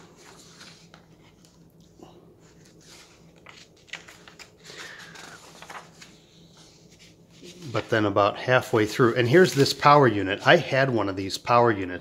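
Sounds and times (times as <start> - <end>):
paper pages rustling: 0.0 - 8.0, 8.8 - 10.6.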